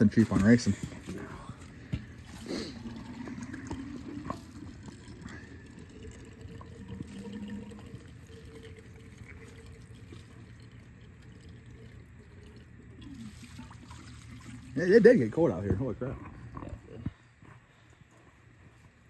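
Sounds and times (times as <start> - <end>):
coolant trickling onto drain grate: 0.0 - 16.2.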